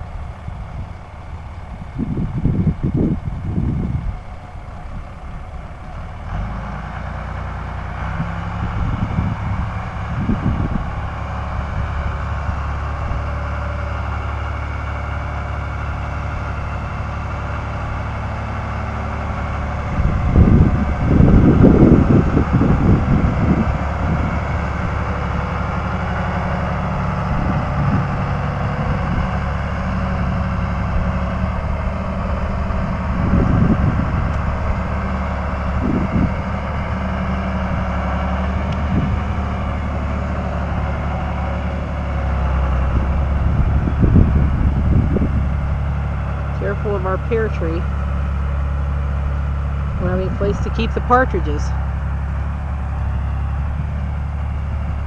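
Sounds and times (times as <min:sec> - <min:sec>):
heavy machine engine running: 0:00.0 - 0:55.0.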